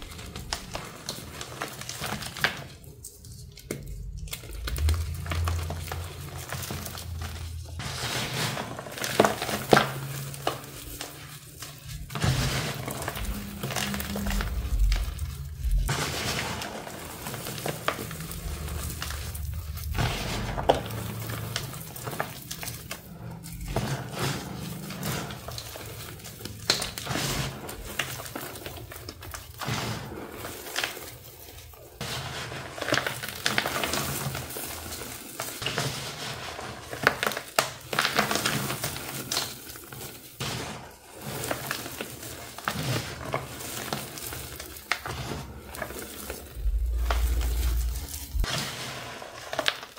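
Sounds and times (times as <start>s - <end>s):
chalk powder crunching: 0.0s - 49.9s.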